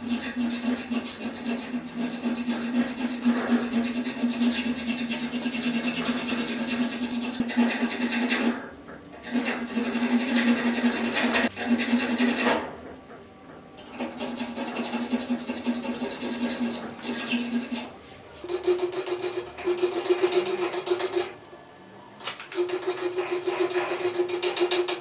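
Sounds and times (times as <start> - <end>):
hand file rasping on axe head: 0.0 - 8.6, 9.2 - 12.7, 13.8 - 21.3, 22.5 - 25.0.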